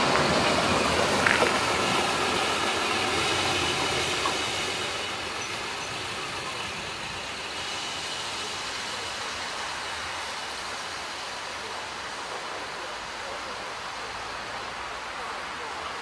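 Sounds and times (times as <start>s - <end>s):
steam train rumbling: 0.0s - 16.0s.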